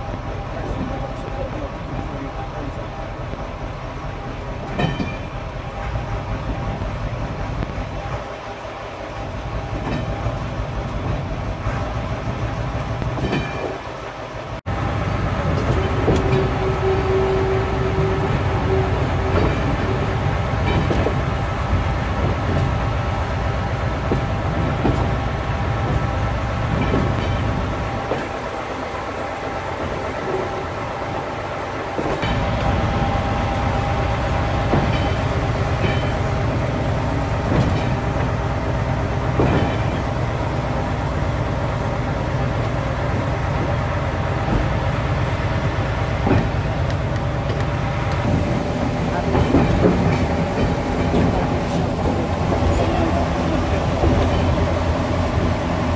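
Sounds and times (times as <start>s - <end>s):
train rumble: 0.0s - 55.9s
wheels clicking over rail joints: 4.6s - 5.4s, 9.2s - 14.8s, 15.4s - 55.9s.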